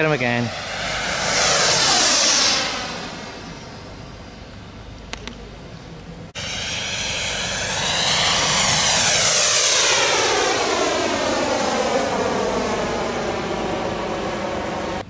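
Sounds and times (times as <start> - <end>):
distant engine sound: 0.0 - 15.0
model jet engine whine: 0.0 - 15.0.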